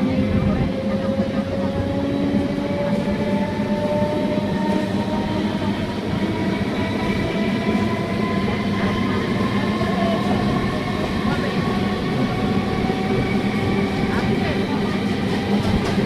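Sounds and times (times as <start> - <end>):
train running gear rumble: 0.0 - 16.0.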